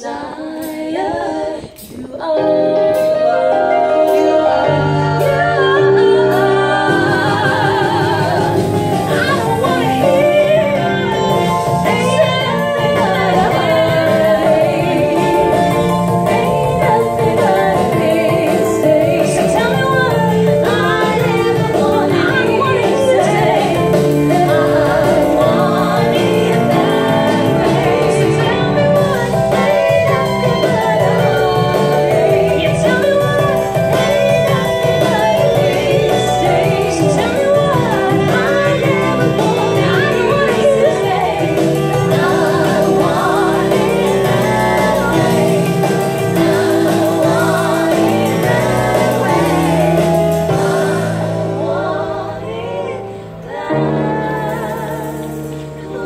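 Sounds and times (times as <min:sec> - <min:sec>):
instrumental backing track: 0:00.0 - 0:56.0
women singing into microphones: 0:00.0 - 0:56.0.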